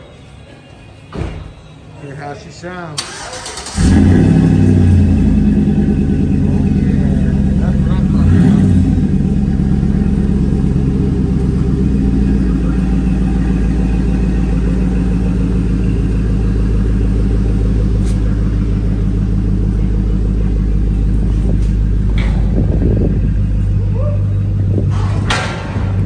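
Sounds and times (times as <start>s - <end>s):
truck engine idling: 3.0s - 26.0s.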